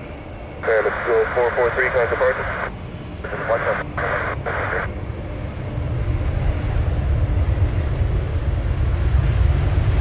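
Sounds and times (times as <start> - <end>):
jet engines rumbling: 0.0 - 10.0.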